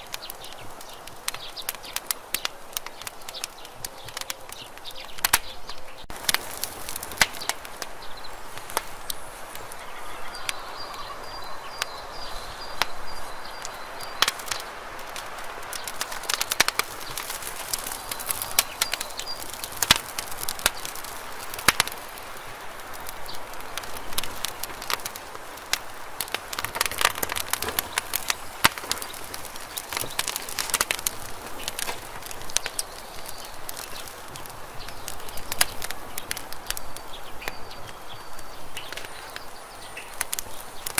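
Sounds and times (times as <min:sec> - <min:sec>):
fire hissing: 0:00.0 - 0:40.9
wood crackling and popping: 0:00.0 - 0:40.9.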